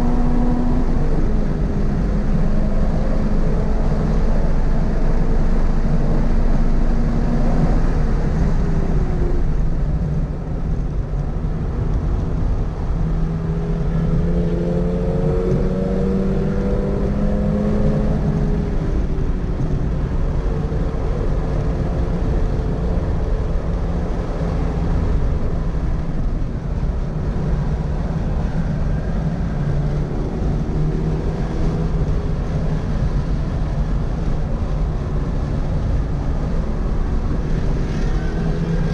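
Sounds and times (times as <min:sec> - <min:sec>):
car engine accelerating: 0:00.0 - 0:38.9
wind and road noise: 0:00.0 - 0:38.9.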